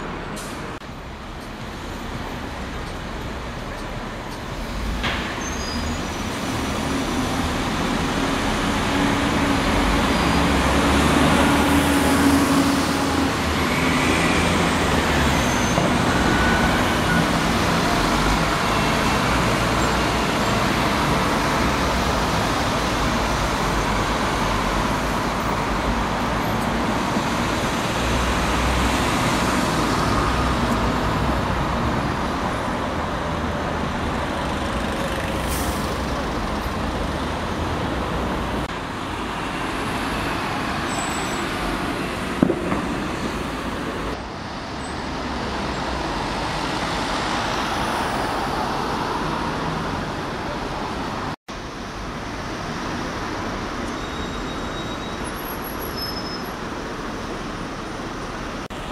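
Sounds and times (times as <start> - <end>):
bus diesel engine drone: 0.0 - 58.9
road traffic noise: 0.0 - 58.9.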